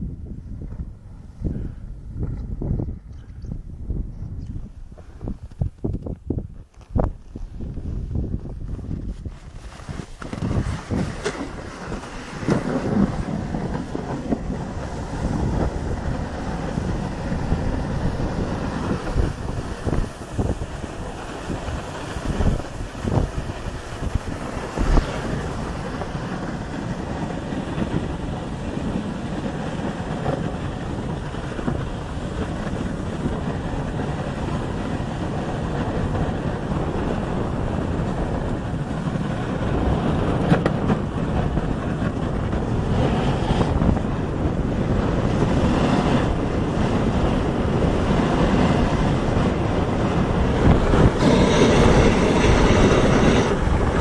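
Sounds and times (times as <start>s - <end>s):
wind buffeting microphone: 0.0s - 54.0s
sled running over packed snow: 6.6s - 54.0s.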